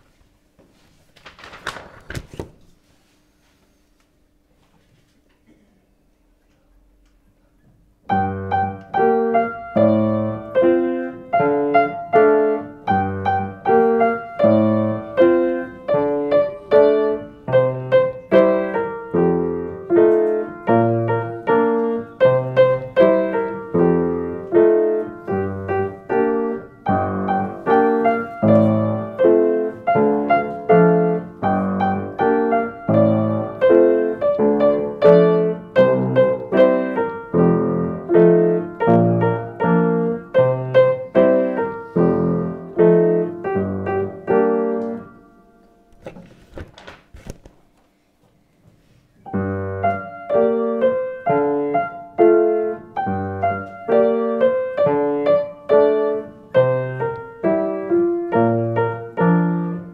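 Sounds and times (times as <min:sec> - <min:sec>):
piano played four-hands: 0:07.8 - 0:46.2, 0:49.2 - 0:59.9.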